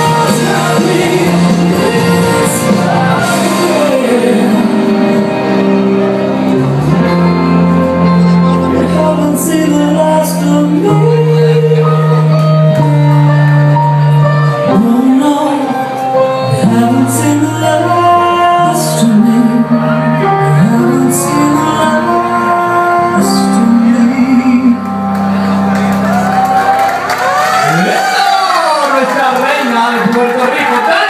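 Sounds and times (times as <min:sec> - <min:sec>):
ballad over sound system: 0:00.0 - 0:31.0.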